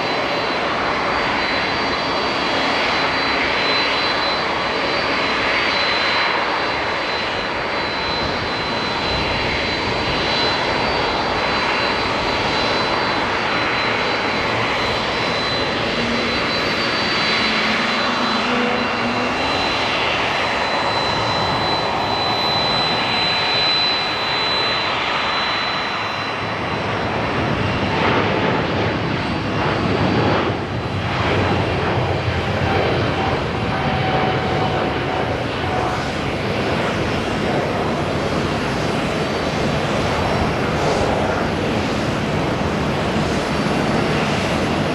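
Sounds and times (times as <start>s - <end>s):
high engine whine: 0.0s - 44.9s
jet engines roaring: 0.0s - 44.9s.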